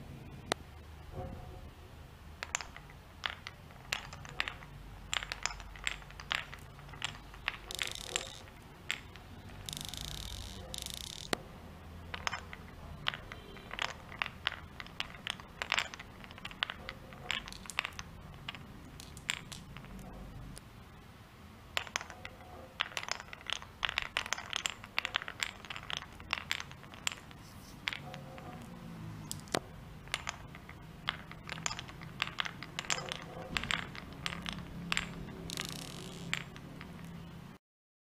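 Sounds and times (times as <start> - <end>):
marble clacking on wooden blocks: 2.3 - 11.4, 12.0 - 20.6, 21.7 - 37.3.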